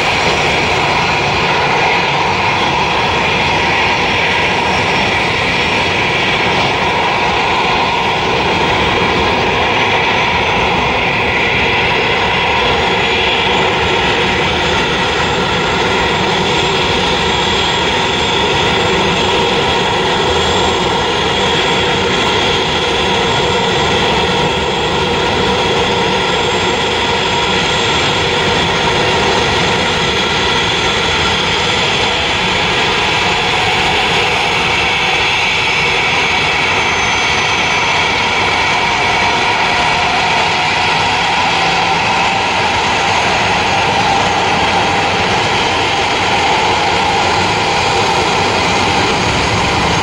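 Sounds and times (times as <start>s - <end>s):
jet engines whining: 0.0s - 50.0s.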